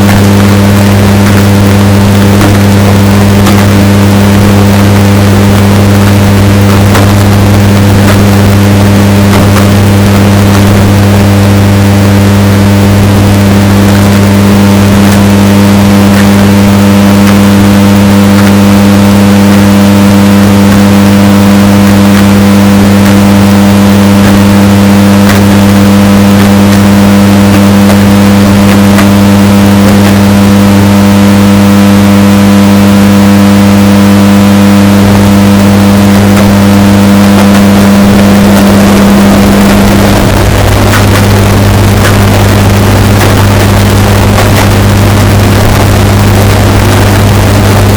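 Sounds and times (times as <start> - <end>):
distorted washing machine hum: 0.0 - 47.9.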